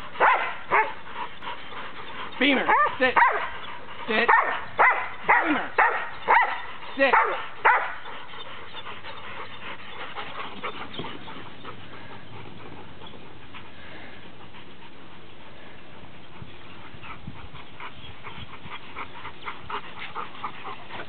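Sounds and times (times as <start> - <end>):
dogs panting: 0.0 - 21.0
steady outdoor hiss: 0.0 - 21.0.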